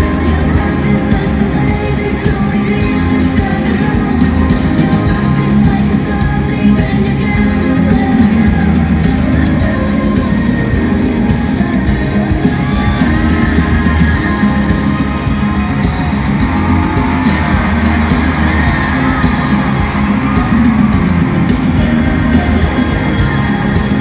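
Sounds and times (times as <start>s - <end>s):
crowd yelling: 0.0s - 24.0s
person singing: 0.0s - 24.0s
pop-rock band playing live: 0.0s - 24.0s.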